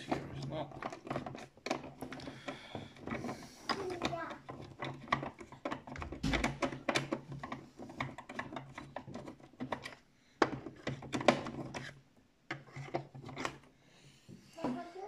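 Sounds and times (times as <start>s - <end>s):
plastic toy tank clicking and rattling: 0.0s - 13.7s.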